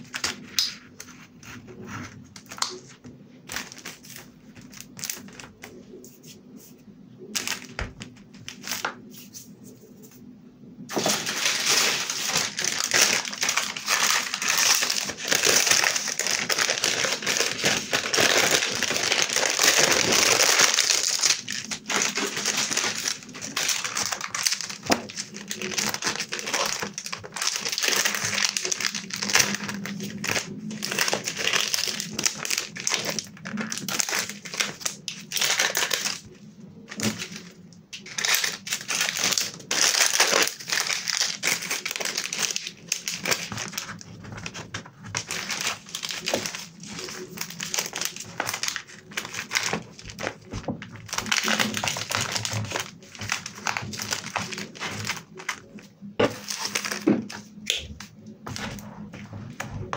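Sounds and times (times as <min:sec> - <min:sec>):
metallic foil crinkling: 0:00.0 - 0:06.4, 0:07.2 - 0:10.1, 0:10.9 - 0:58.9.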